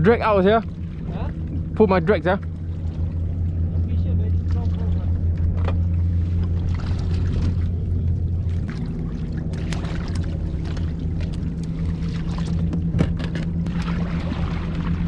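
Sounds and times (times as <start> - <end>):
boat motor hum: 0.0 - 15.0.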